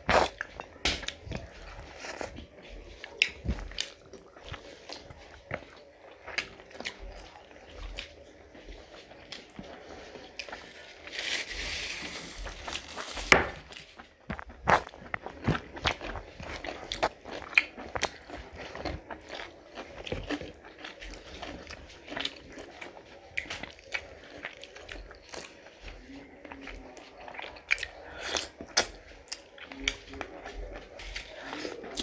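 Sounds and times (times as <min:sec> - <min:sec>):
chewing with mouth clicks: 0:00.0 - 0:32.0.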